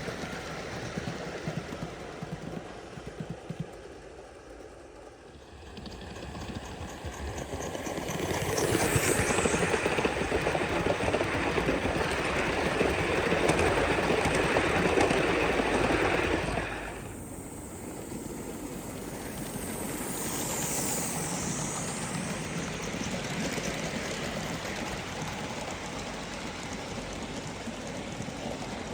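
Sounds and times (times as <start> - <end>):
steam hissing: 5.2 - 28.9.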